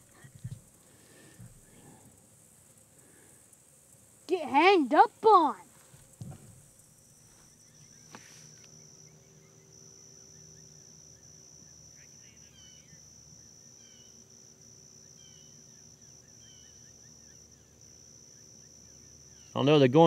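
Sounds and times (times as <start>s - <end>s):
insects buzzing: 0.0s - 20.0s
songbird chirping: 0.0s - 20.0s.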